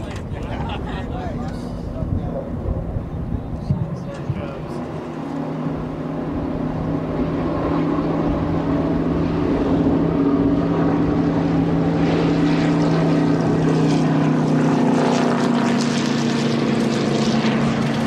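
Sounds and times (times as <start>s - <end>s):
motor droning: 0.0s - 18.0s.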